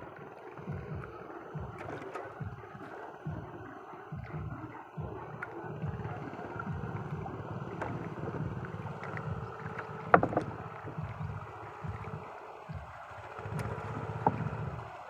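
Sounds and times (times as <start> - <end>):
water rumble: 0.0 - 15.0.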